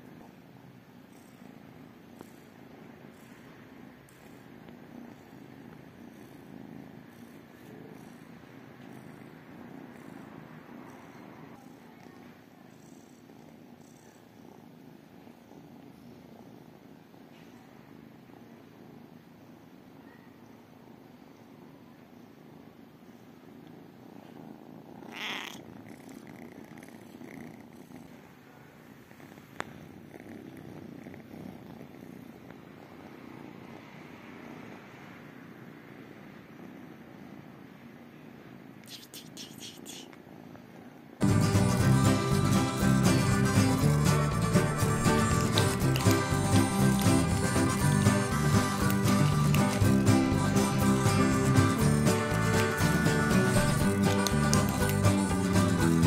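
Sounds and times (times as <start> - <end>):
kittens purring: 0.0 - 56.0.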